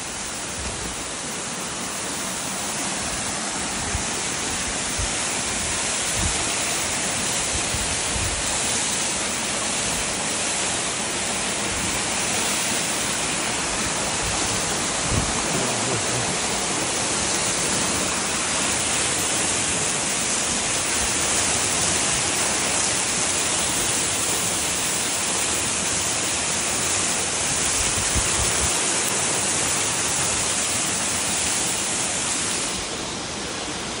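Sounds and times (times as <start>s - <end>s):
waterfall rushing onto rocks: 0.0s - 34.0s.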